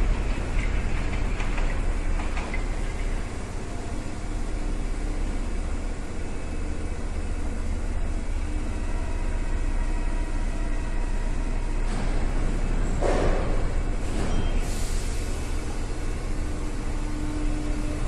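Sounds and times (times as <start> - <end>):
train hum and hiss: 0.0 - 18.0.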